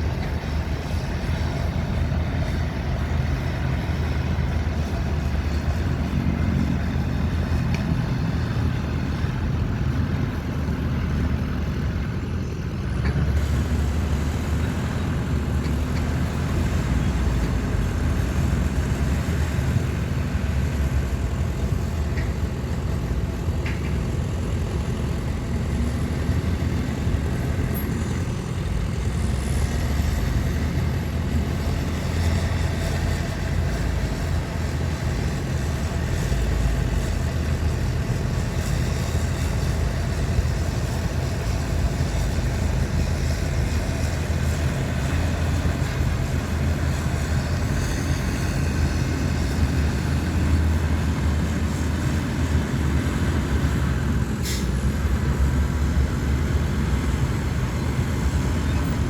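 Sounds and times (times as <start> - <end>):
heavy diesel machinery droning: 0.0 - 59.0.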